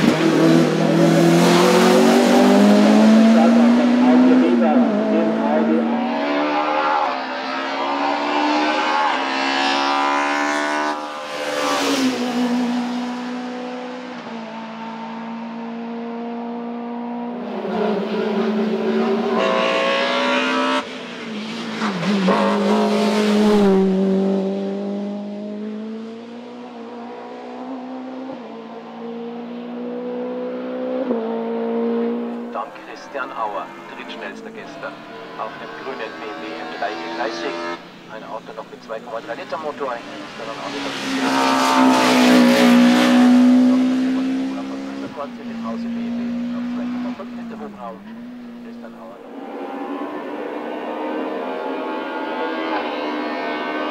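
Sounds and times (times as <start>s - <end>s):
race car engines accelerating: 0.0s - 53.9s.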